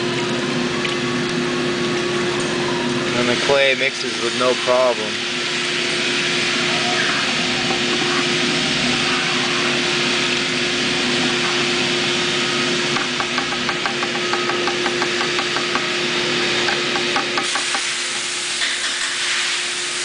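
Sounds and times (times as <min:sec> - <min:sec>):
machine humming with hiss: 0:00.0 - 0:20.0.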